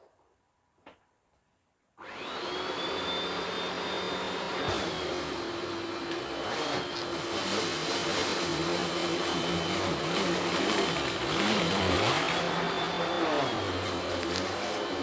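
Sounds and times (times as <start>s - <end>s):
upright vacuum cleaner running: 2.0s - 15.0s.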